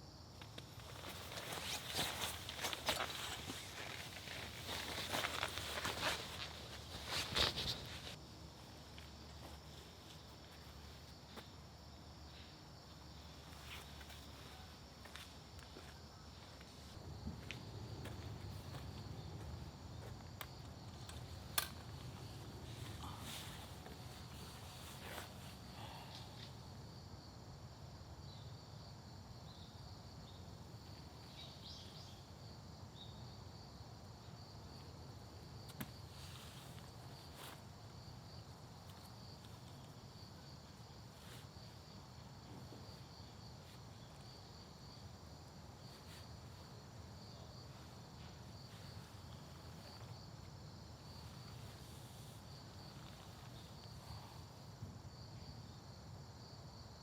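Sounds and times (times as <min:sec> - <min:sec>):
insects chirping trill: 0:00.0 - 0:57.0.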